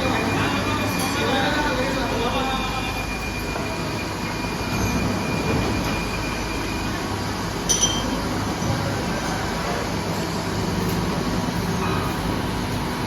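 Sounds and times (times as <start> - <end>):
cnc machine running: 0.0 - 13.0.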